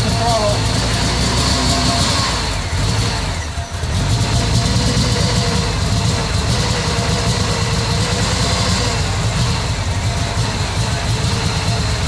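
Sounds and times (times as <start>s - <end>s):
van engine running roughly: 0.0s - 12.0s.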